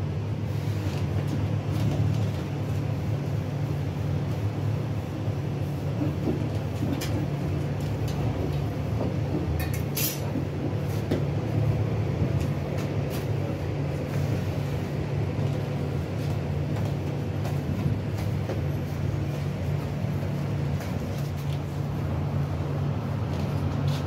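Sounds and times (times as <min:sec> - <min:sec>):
machinery low rumble: 0:00.0 - 0:24.0.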